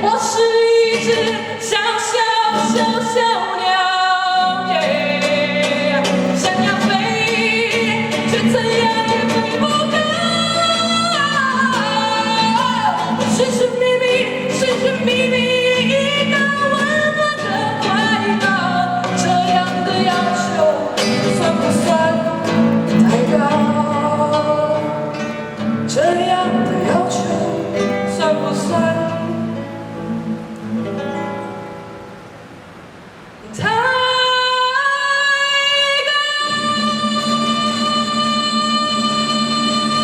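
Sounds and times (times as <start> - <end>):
woman singing: 0.0 - 30.2, 33.4 - 40.0
acoustic guitar: 0.0 - 40.0.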